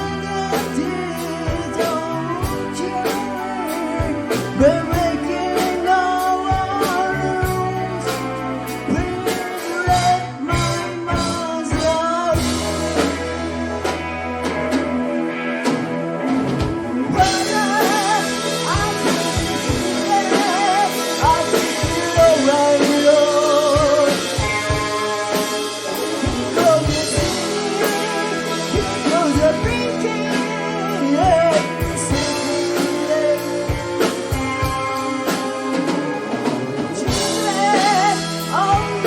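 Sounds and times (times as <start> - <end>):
live hard rock band: 0.0 - 39.0.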